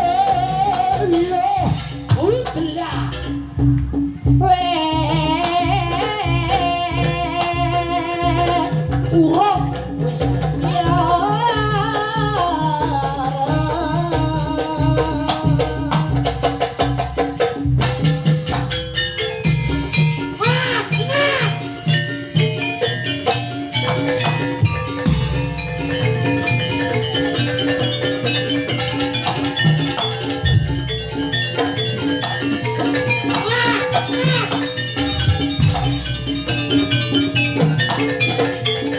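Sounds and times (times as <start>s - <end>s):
ornamented sung melody: 0.0s - 3.4s, 4.3s - 17.4s, 19.0s - 38.9s
drum and gong rhythm: 0.0s - 38.9s.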